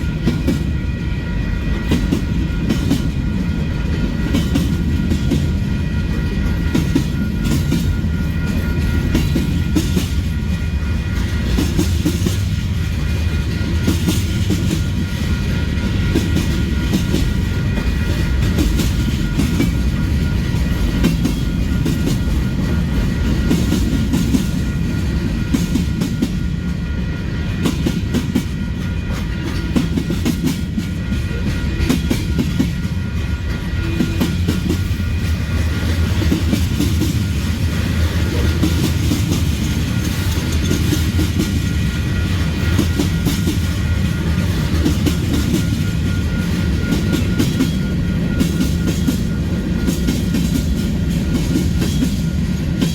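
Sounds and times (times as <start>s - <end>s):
freight train rumbling: 0.0s - 52.9s
wheels clicking on rail joints: 0.0s - 52.9s.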